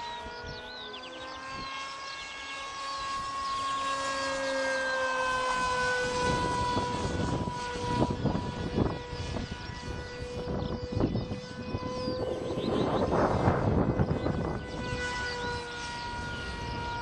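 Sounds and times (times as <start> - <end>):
model plane motor whine: 0.0 - 17.0.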